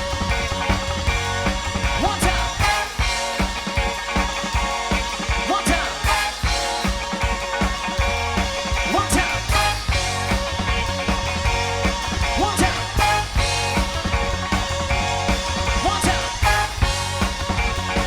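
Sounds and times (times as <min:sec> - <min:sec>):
soul band playing: 0:00.0 - 0:18.0
steady drum beat: 0:00.0 - 0:18.0.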